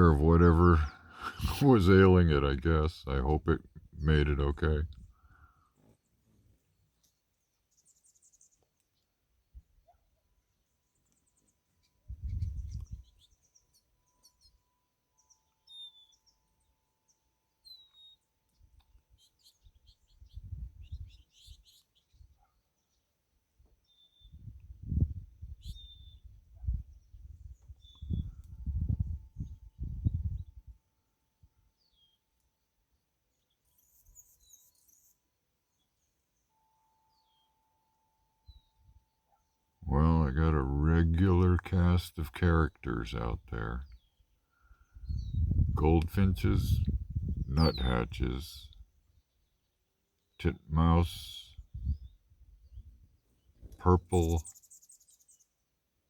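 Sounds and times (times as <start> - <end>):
small birds chirping: 0.0 - 30.7, 31.7 - 37.6, 38.4 - 55.8.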